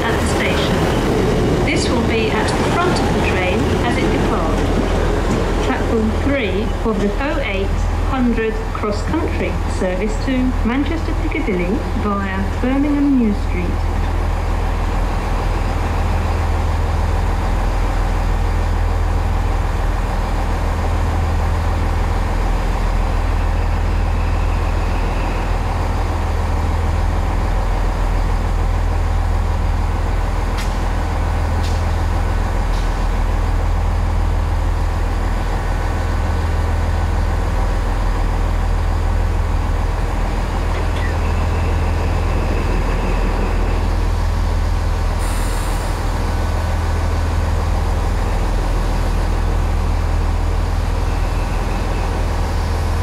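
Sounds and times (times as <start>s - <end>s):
diesel train engines rumbling: 0.0s - 53.0s.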